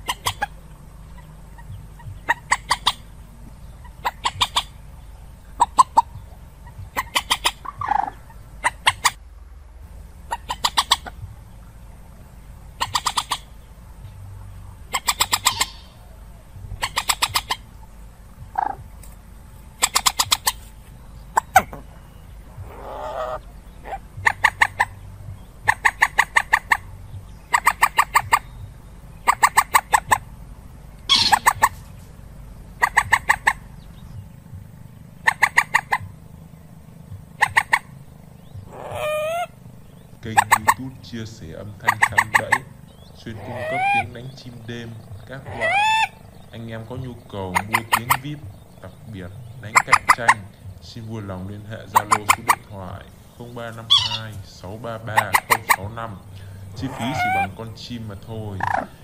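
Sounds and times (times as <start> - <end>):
moorhen calls: 0.0 - 59.0.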